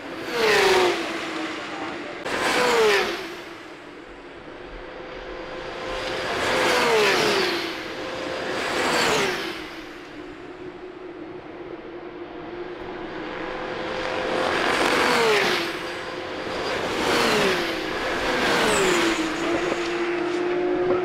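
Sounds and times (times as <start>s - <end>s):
race car engines passing by: 0.0s - 21.0s.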